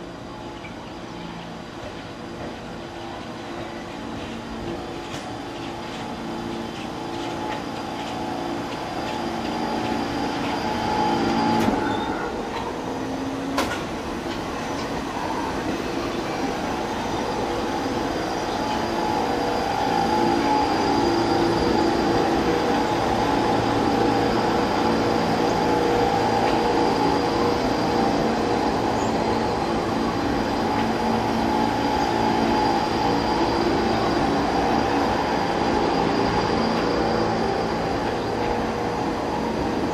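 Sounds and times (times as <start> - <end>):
subway train running past: 0.0 - 39.9.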